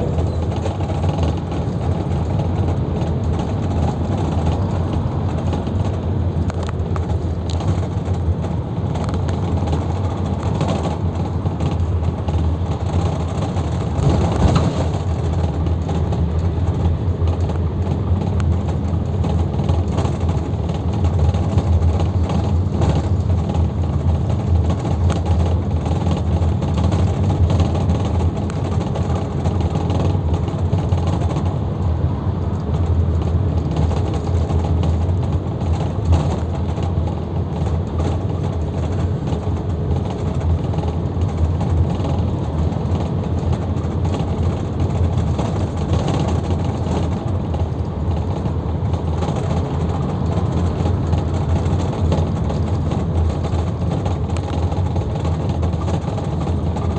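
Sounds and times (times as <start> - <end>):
minibus engine drone: 0.0 - 56.9
road and cabin noise: 0.0 - 56.9.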